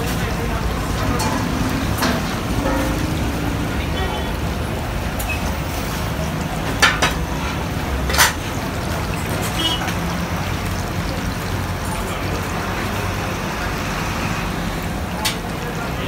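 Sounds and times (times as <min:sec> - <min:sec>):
food deep-frying in oil: 0:00.0 - 0:16.0.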